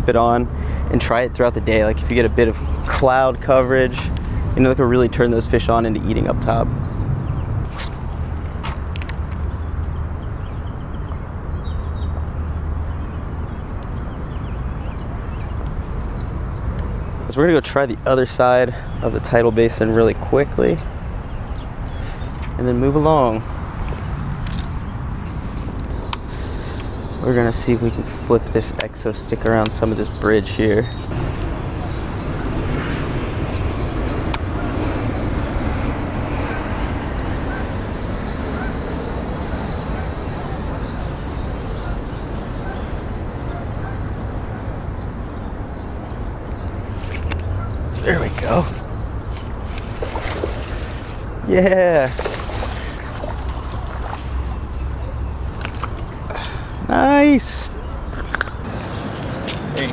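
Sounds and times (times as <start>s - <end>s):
low rumbling background noise: 0.0s - 59.9s
small birds chirping: 6.5s - 59.9s.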